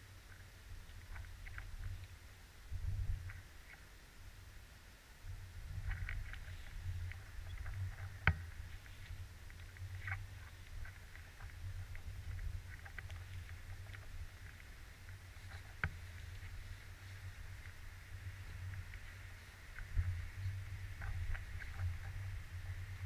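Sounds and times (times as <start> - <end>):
low uneven rumble: 0.0 - 23.0
faint ticks: 0.2 - 2.2, 5.7 - 23.0.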